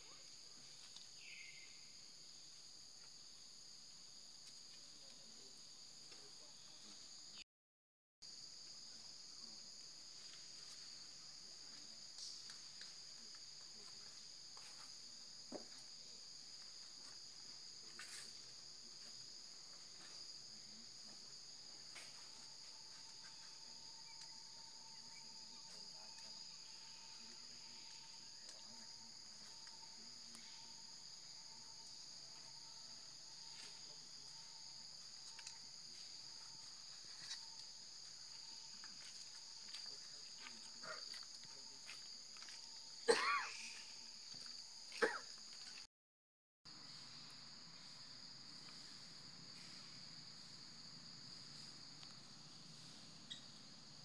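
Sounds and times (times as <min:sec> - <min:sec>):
high-pitched insect chorus: 0:00.0 - 0:07.4, 0:08.3 - 0:45.9, 0:46.7 - 0:54.0.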